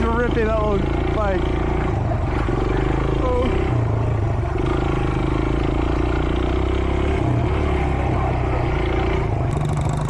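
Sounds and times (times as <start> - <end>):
pit bike engine under throttle: 0.0 - 10.0.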